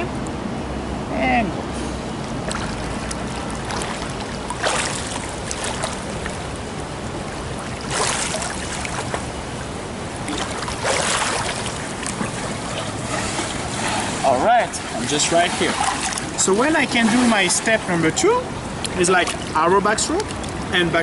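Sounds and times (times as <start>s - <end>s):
water rushing: 2.1s - 21.0s
swimmer splashing: 2.2s - 20.7s.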